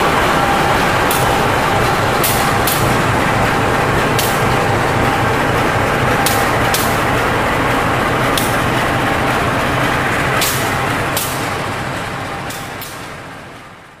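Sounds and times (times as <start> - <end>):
diesel locomotive engine running: 0.0 - 14.0.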